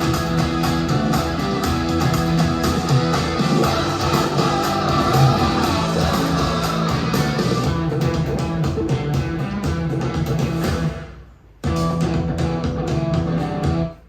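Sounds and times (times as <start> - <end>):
guitar music over speakers: 0.0 - 14.0.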